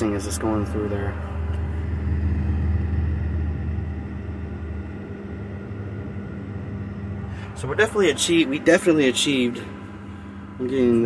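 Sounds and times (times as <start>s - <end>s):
refrigerator hum: 0.0s - 11.0s.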